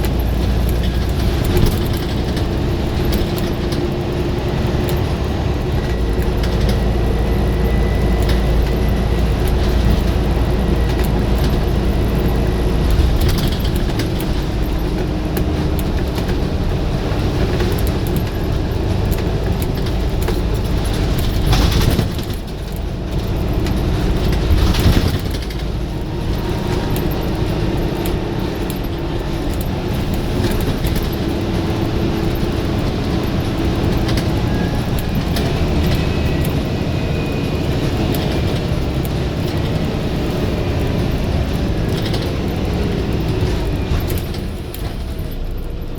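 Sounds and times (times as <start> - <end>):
diesel bus engine droning: 0.0 - 45.9.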